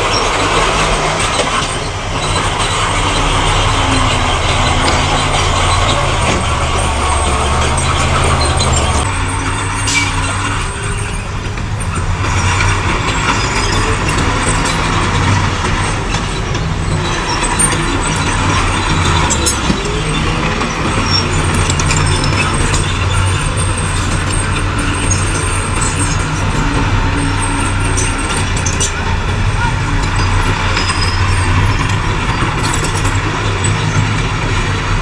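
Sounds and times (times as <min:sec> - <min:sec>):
heavy diesel machinery running: 0:00.0 - 0:35.0.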